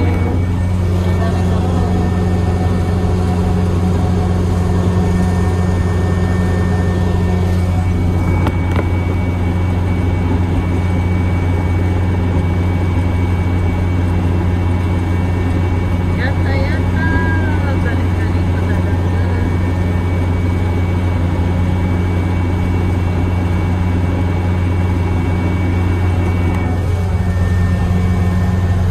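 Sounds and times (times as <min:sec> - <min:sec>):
combine harvester engine drone: 0:00.0 - 0:28.9
machinery hum: 0:00.0 - 0:28.9.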